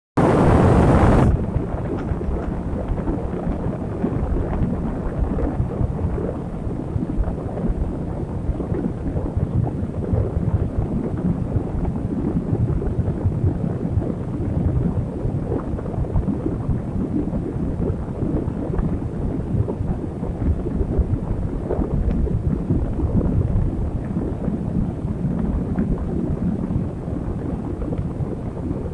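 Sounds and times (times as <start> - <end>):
wind buffeting a microphone: 0.2 - 28.9.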